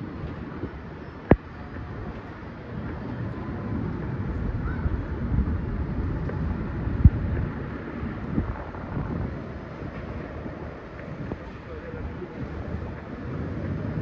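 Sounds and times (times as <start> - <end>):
low city rumble: 0.0 - 14.0
wind buffeting microphone: 0.0 - 14.0.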